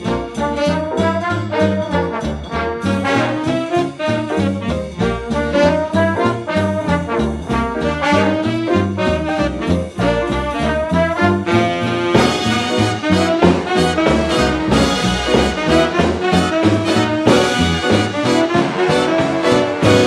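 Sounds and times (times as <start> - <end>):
upbeat brass music: 0.0 - 20.0.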